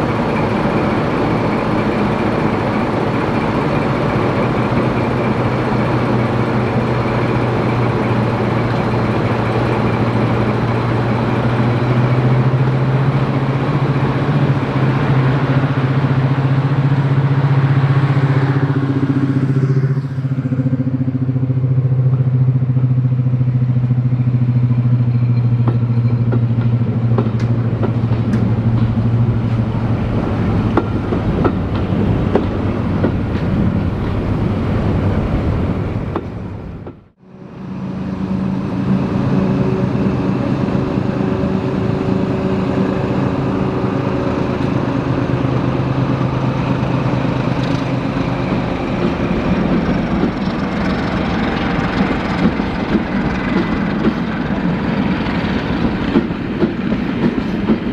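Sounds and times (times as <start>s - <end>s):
diesel locomotive engine drone: 0.0s - 57.9s.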